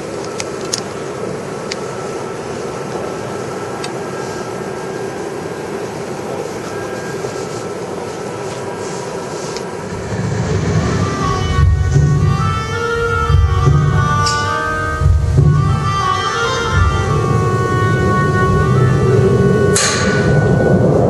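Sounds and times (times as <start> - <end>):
indoor hall ambience hum: 0.0 - 21.0.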